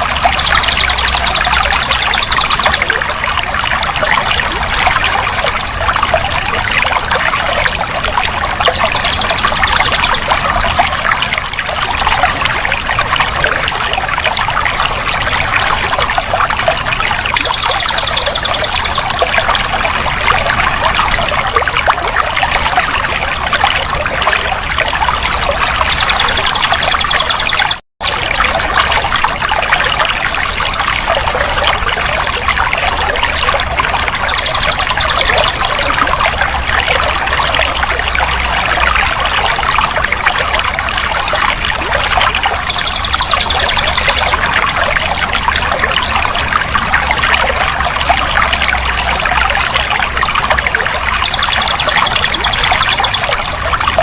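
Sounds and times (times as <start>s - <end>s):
water trickling and pouring: 0.0s - 54.0s.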